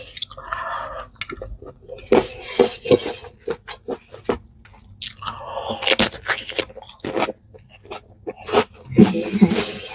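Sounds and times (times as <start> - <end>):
crunching and chewing food: 0.0 - 9.9.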